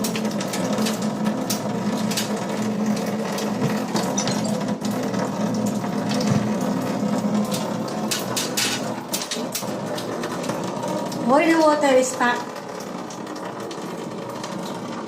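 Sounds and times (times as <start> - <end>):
water pump motor humming: 0.0 - 15.0
water rushing: 0.0 - 15.0.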